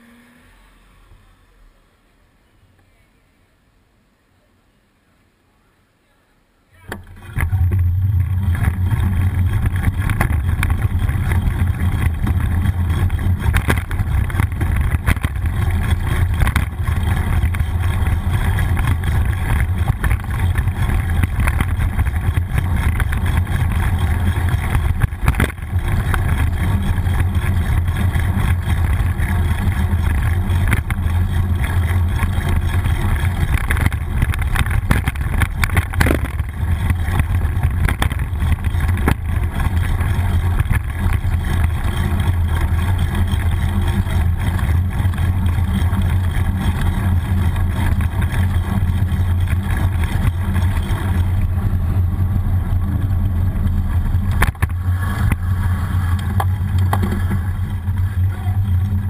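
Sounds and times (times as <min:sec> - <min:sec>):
bicycle road vibration: 0:06.7 - 0:59.0.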